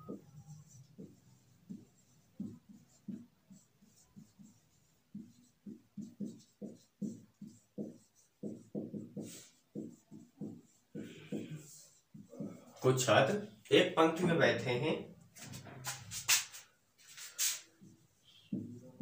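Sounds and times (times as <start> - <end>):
marker writing on whiteboard: 0.0 - 14.4, 15.3 - 19.0.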